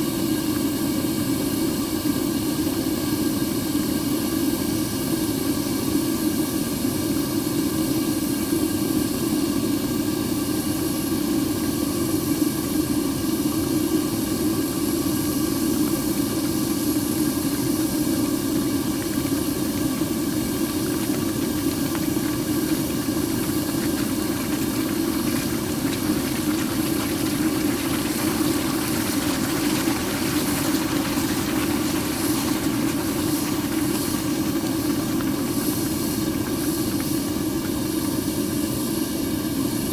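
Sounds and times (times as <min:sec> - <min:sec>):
furnace burner roaring: 0:00.0 - 0:39.9.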